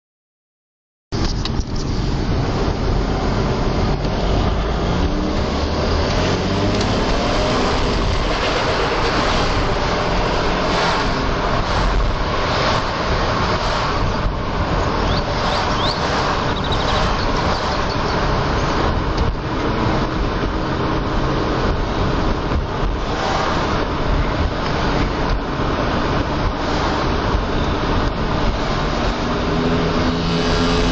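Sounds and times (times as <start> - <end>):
diesel engine running: 1.2 - 30.9
loud turbocharger noise: 1.5 - 30.9.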